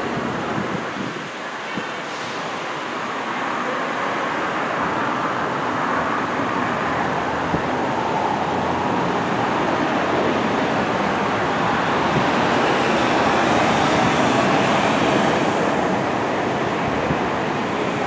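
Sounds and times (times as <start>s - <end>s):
rushing vehicle noise: 0.0s - 18.0s.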